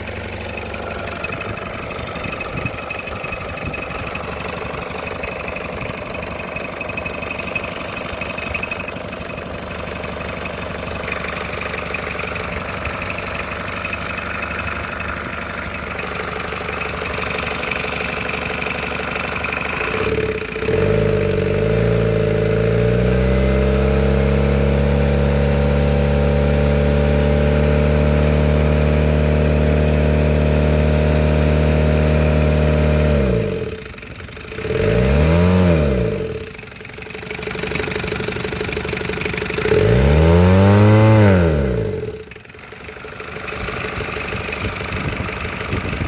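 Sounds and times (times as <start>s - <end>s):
diesel engine revving and idling: 0.0s - 46.0s.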